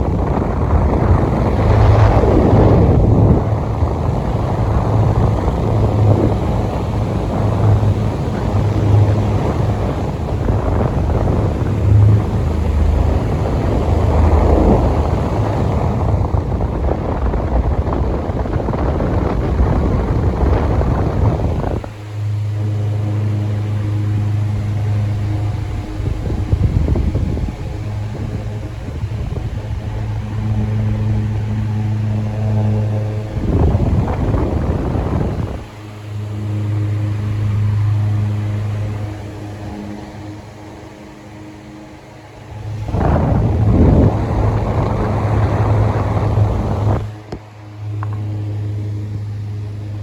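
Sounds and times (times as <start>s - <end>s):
fan motor hum: 0.0s - 50.0s
fan wind buffeting microphone: 0.0s - 50.0s.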